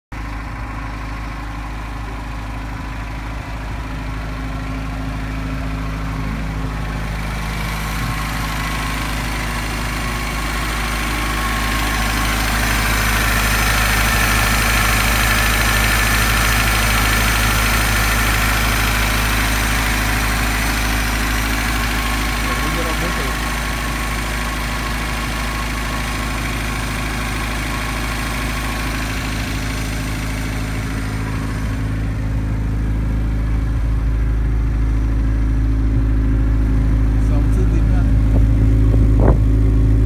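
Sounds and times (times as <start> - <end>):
car engine idling: 0.1 - 40.0.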